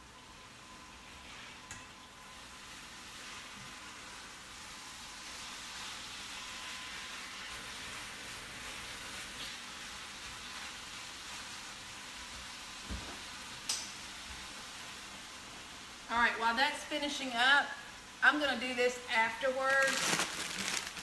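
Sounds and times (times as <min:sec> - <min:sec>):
beef sizzling in a skillet: 0:00.0 - 0:18.3.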